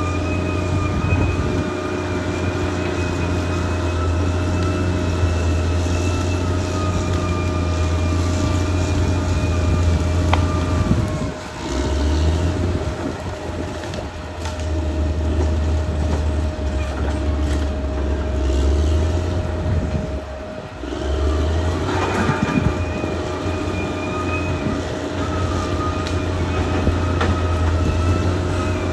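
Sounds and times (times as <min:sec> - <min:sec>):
bulldozer clanking: 0:00.0 - 0:28.9
bulldozer diesel engine whining: 0:00.0 - 0:28.9.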